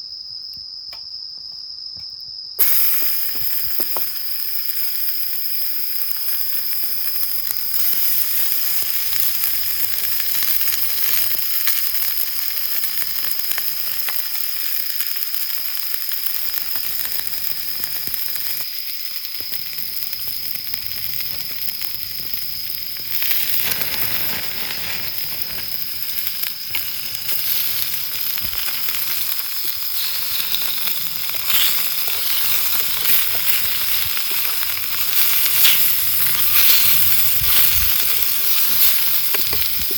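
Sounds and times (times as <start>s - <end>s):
food sizzling in a pan: 2.6s - 39.9s.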